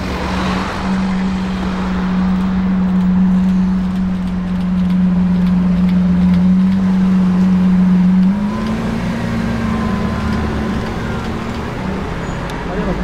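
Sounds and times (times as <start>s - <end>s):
cars driving past slowly: 0.0s - 13.0s.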